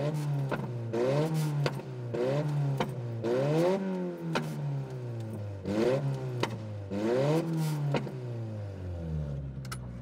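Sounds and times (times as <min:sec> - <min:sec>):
engine revving and idling: 0:00.0 - 0:10.0.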